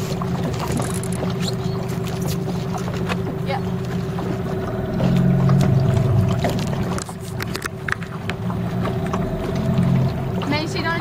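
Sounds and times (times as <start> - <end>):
motorboat engine running: 0.0 - 11.0
water slapping against hull: 0.0 - 11.0.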